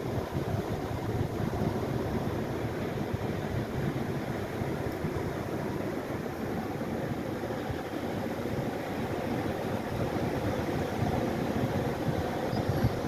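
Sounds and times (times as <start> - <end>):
wind buffeting microphone: 0.0 - 13.0
distant surf: 0.1 - 13.0.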